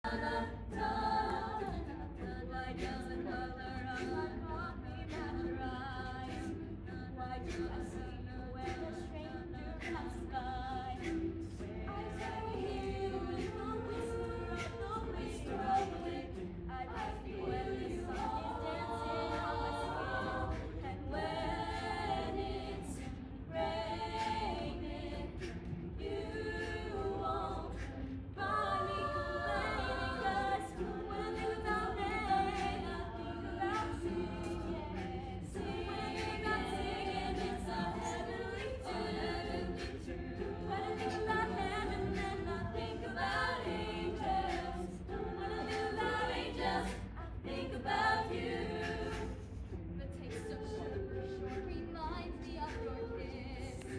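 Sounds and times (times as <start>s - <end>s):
choir singing a cappella: 0.0s - 53.9s.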